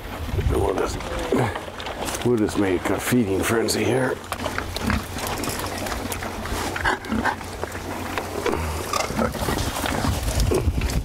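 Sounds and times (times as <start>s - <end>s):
pigs grunting: 0.8s - 11.0s.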